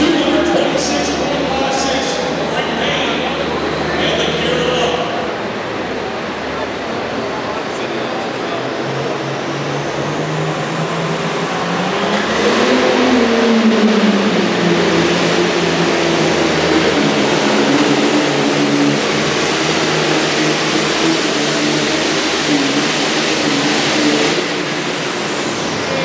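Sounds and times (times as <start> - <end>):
tractor diesel engine running hard: 0.0 - 26.0.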